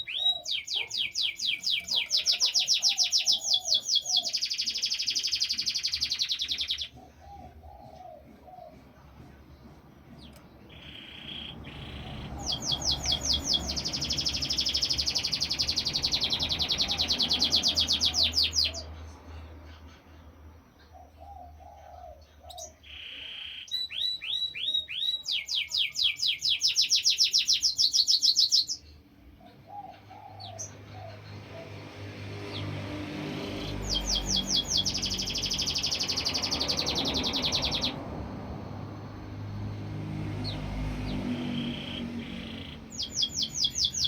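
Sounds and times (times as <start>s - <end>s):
canary singing trills: 0.0s - 8.9s, 10.1s - 44.0s.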